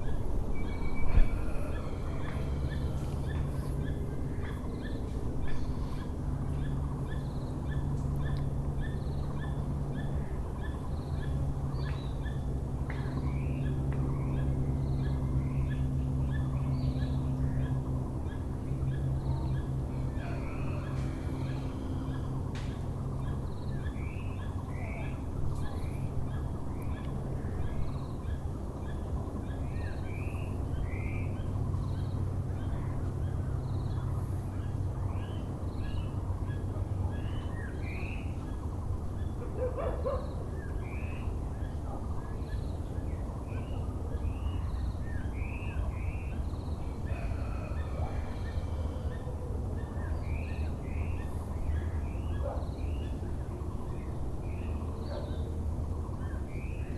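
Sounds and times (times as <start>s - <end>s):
birds chirping: 0.0s - 56.9s
distant city hum: 0.0s - 56.9s.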